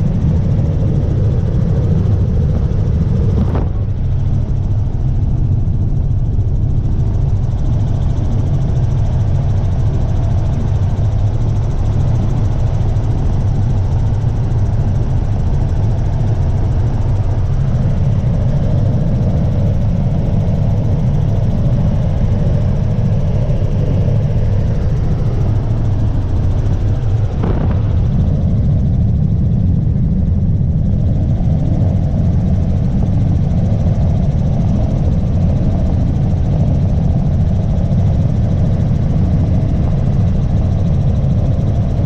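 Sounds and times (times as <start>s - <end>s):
helicopter engine and rotor drone: 0.0s - 42.0s.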